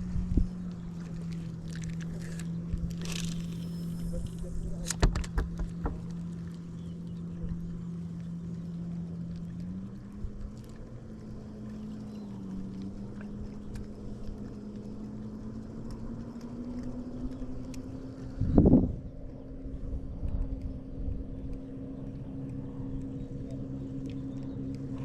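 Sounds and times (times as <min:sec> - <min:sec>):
boat motor humming: 0:00.0 - 0:25.0.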